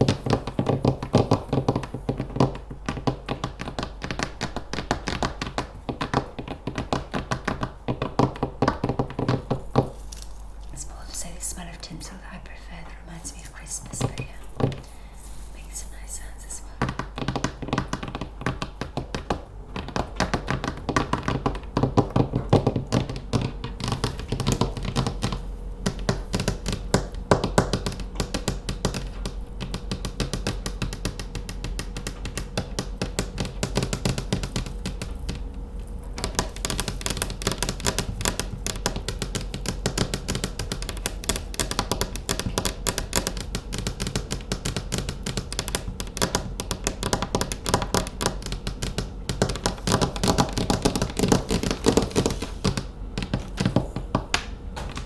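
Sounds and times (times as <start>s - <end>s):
fingernails tapping rapidly: 0.0s - 10.2s, 16.8s - 35.5s, 36.1s - 55.0s.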